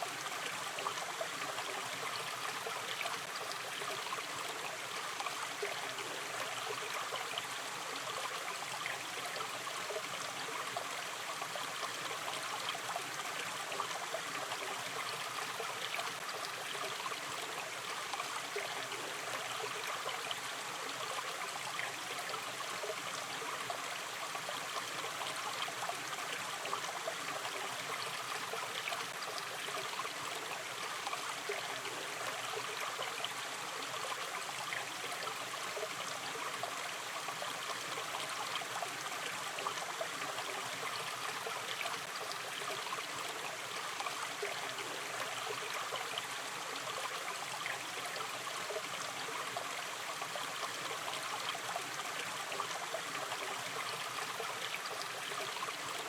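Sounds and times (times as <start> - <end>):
shallow stream babbling: 0.0 - 56.0.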